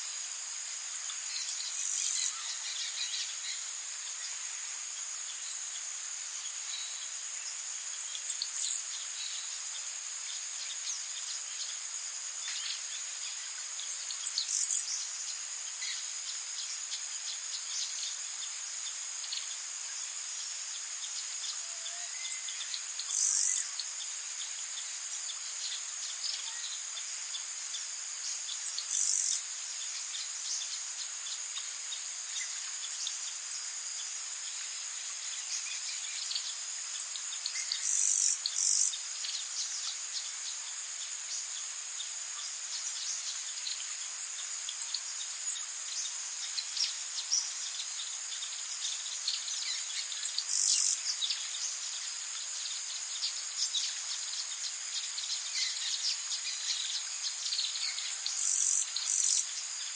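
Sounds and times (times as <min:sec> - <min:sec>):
crickets trilling: 0:00.0 - 0:59.9
high buzzing insect call: 0:00.0 - 0:59.9
insects droning: 0:00.0 - 0:59.9
faint chirps and ticks: 0:00.1 - 0:59.9.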